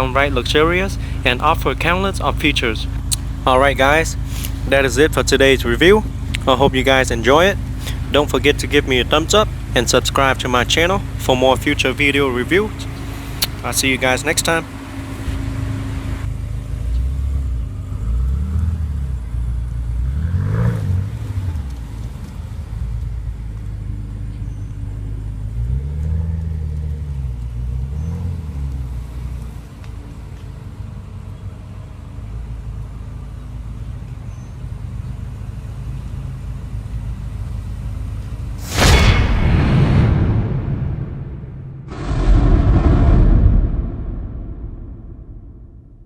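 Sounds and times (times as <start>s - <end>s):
car engine idling and revving: 0.0s - 39.3s.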